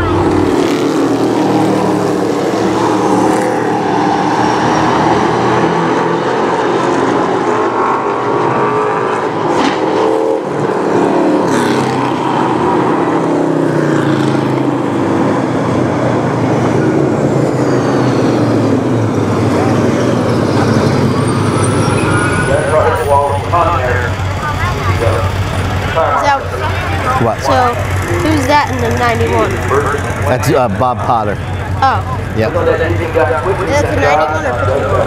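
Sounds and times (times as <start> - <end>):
race car engines running: 0.0 - 35.0.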